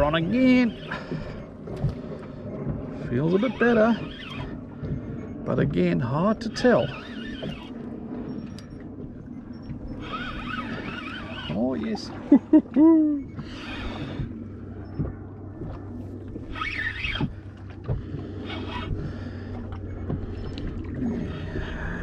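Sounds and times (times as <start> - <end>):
water noise: 0.0 - 22.0
wind: 0.0 - 22.0.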